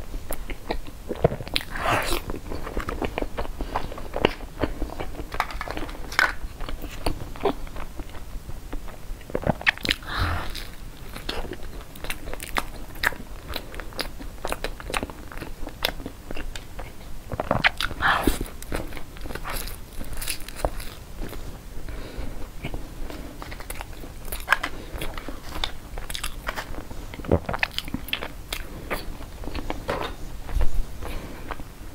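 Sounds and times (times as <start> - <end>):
crunchy pastry chewing: 0.3 - 31.6.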